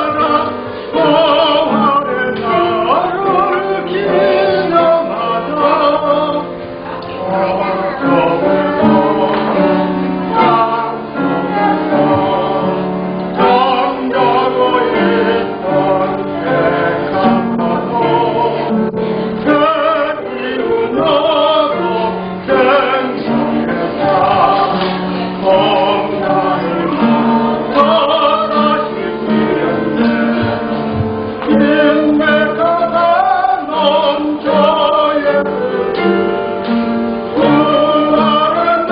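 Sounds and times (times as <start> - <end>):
group singing praise song: 0.0 - 38.9.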